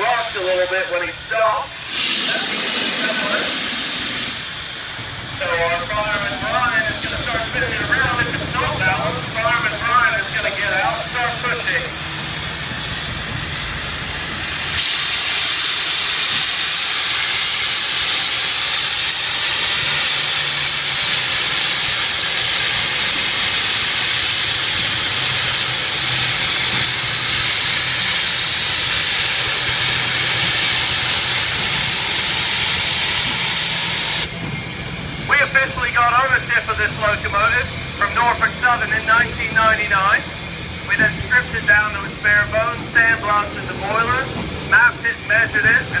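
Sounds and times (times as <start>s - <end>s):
steam locomotive venting steam: 0.0s - 46.0s.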